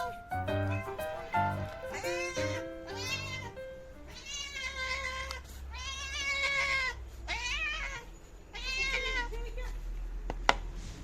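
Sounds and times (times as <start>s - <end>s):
cat meowing: 0.7s - 9.8s.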